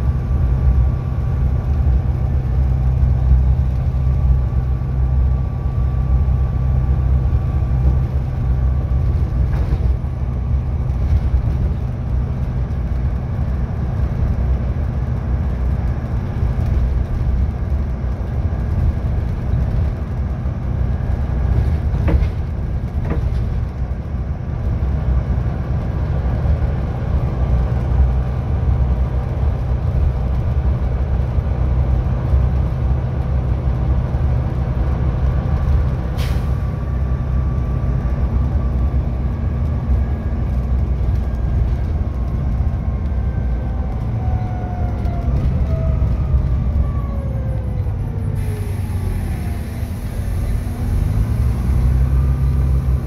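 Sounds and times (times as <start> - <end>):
bus diesel engine drone: 0.0 - 53.0.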